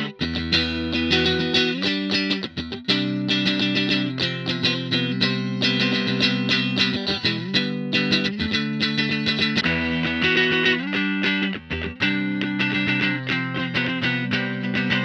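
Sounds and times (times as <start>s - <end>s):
electric guitar through amp: 0.0s - 15.0s.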